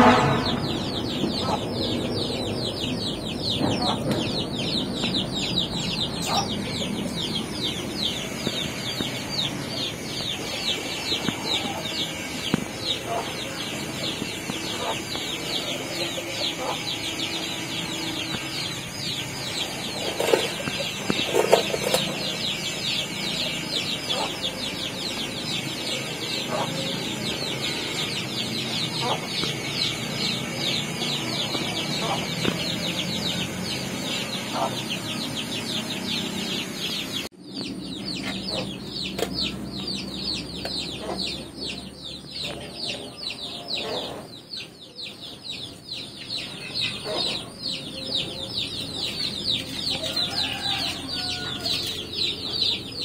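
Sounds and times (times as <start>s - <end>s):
chicks peeping: 0.0s - 53.0s.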